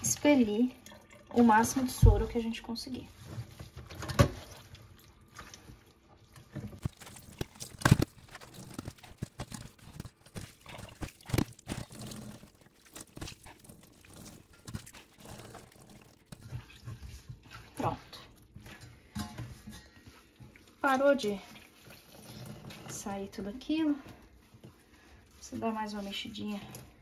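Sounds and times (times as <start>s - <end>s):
wet cloth squelching: 0.1s - 27.0s.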